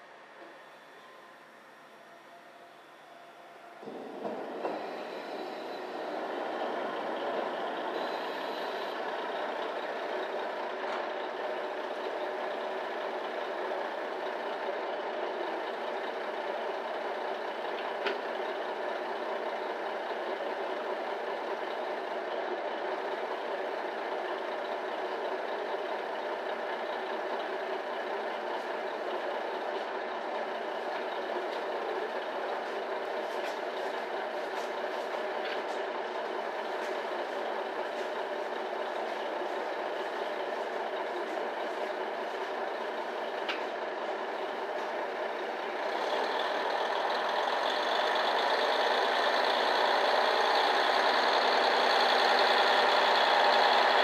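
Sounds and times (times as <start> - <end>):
diesel railcar engine idling: 0.0 - 54.0.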